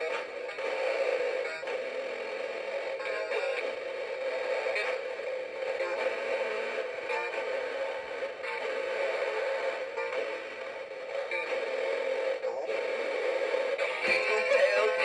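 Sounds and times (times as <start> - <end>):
tinny distorted toy speaker song: 0.0 - 15.0.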